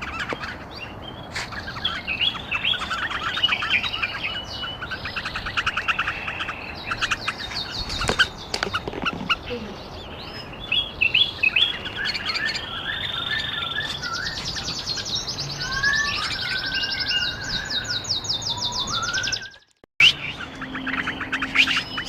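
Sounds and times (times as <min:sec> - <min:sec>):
bulbuls calling: 0:00.0 - 0:22.0.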